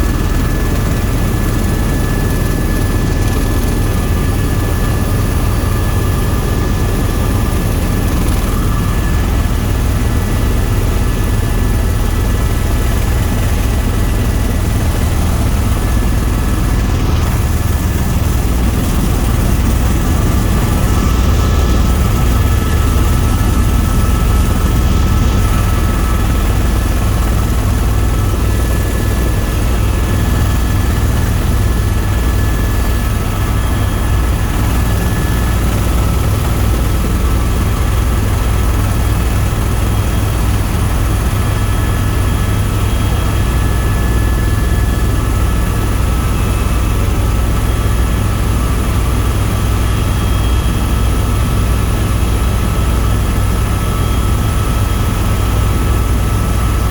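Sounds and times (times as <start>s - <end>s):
helicopter rotor and engine drone: 0.0s - 56.9s.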